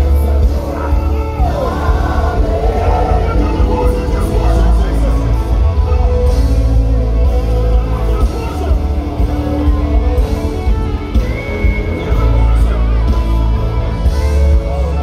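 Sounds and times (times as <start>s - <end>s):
live gospel band music: 0.0s - 15.0s.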